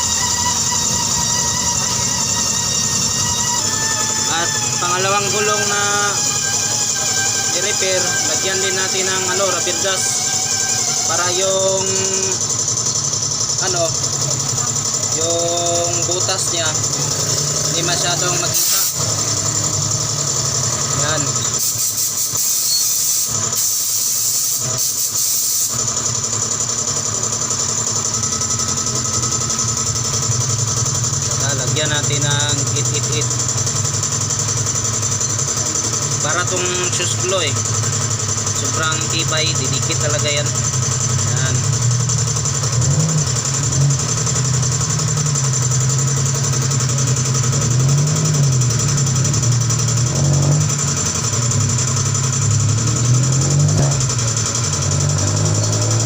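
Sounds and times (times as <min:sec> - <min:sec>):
motor humming: 0:00.0 - 0:25.0, 0:25.6 - 0:56.0.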